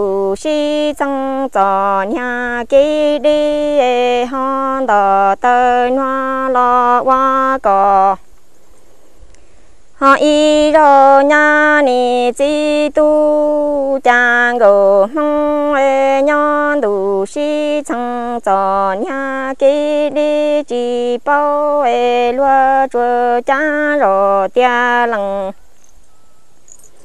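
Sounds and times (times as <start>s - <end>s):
person singing unaccompanied: 0.0s - 8.4s, 9.8s - 27.0s.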